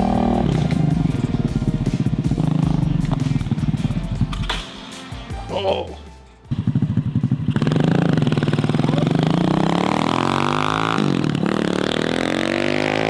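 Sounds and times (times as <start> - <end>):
go kart engine accelerating: 0.0 - 4.5, 6.5 - 13.0.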